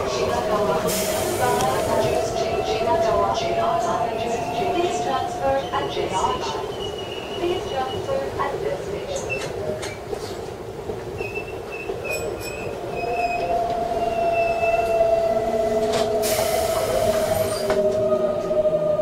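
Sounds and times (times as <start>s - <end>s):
train wheels squealing on rails: 0.6s - 8.2s, 9.2s - 10.4s, 11.1s - 18.1s.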